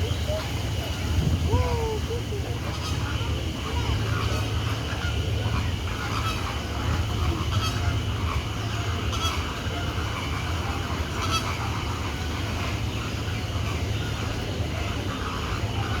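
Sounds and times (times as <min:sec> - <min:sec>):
flamingos honking: 0:00.0 - 0:16.0
steady low hum: 0:00.0 - 0:16.0.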